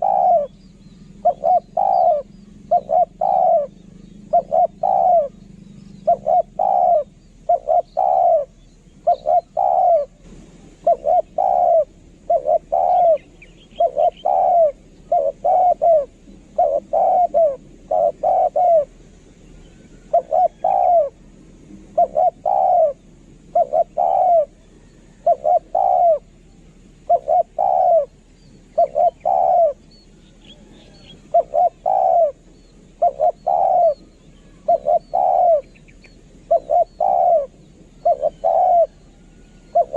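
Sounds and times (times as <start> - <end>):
small bird chirps: 0.0 - 10.2, 10.8 - 21.2, 22.0 - 39.9
dove cooing: 0.0 - 39.9.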